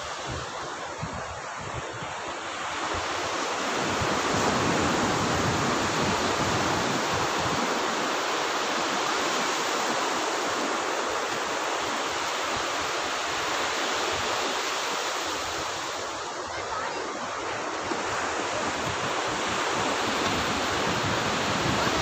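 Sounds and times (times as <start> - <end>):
sea surf breaking on beach: 0.0 - 22.0.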